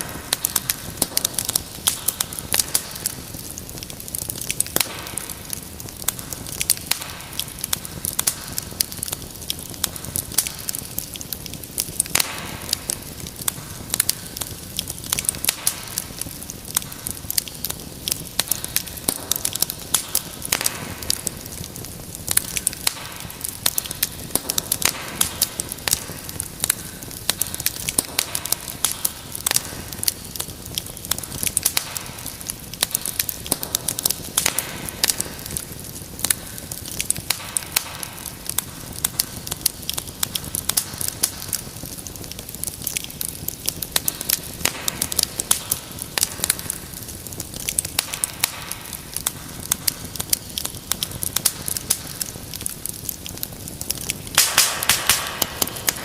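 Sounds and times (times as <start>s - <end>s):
wood fire crackling in fireplace: 0.0s - 56.0s.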